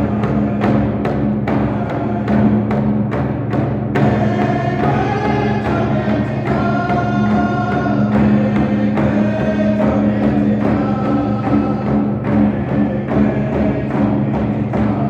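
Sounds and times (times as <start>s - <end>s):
group of voices singing: 0.0s - 2.9s, 4.0s - 15.0s
steady drumbeat: 0.0s - 15.0s.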